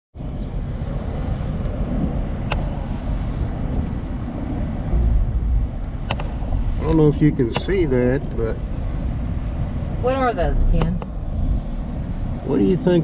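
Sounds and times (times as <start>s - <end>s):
moving vehicle rumble: 0.2s - 13.0s
wind rush: 0.2s - 13.0s.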